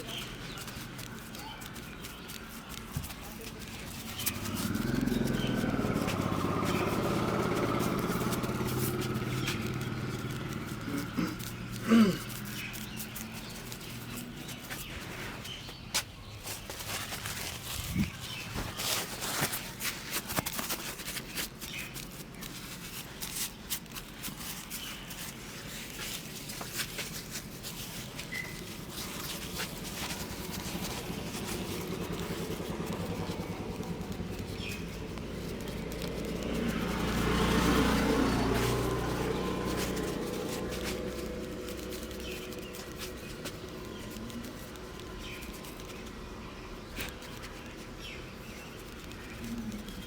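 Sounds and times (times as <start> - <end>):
birds chirping faintly: 0.0 - 50.0
hands rustling: 0.0 - 50.0.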